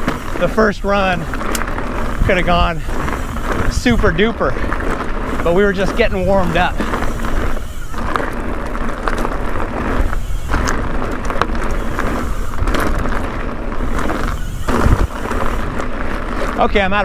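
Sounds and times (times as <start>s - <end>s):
bike clicks and rattles: 0.0s - 17.0s
tyres crunching over gravel: 0.0s - 17.0s.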